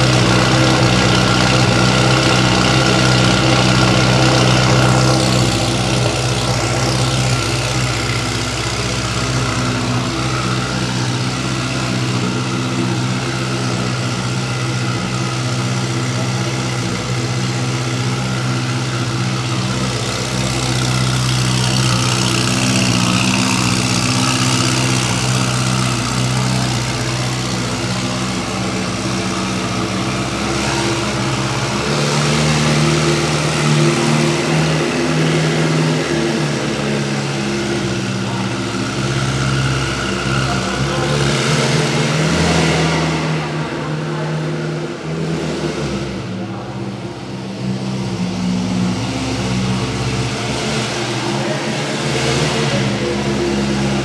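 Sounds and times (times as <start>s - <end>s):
sports car engine idling: 0.0s - 54.0s.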